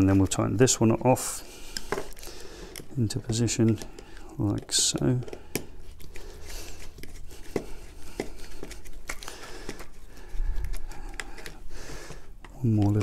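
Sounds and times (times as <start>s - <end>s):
plastic and wire handling: 0.0s - 13.0s
screwdriver clicking and scraping: 1.7s - 13.0s.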